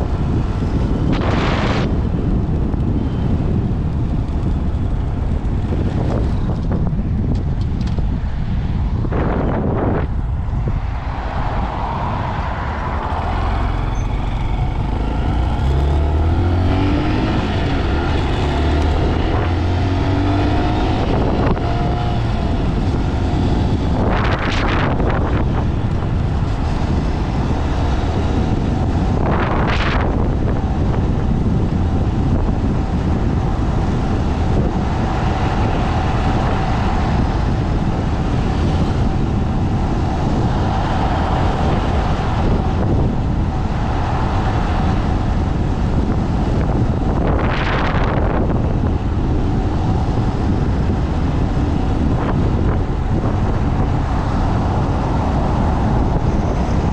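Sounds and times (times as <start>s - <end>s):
wind rumble on microphone: 0.0s - 56.9s
motorcycle engine accelerating: 0.1s - 3.3s, 13.0s - 56.9s.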